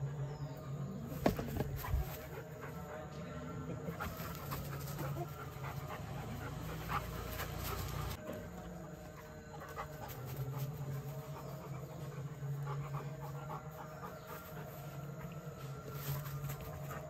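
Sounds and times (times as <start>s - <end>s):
dog panting: 1.6s - 17.0s.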